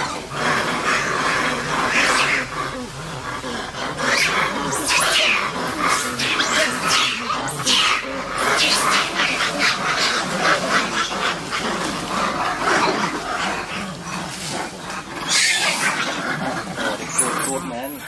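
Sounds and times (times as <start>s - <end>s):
monkeys screeching and chattering: 0.0s - 18.0s.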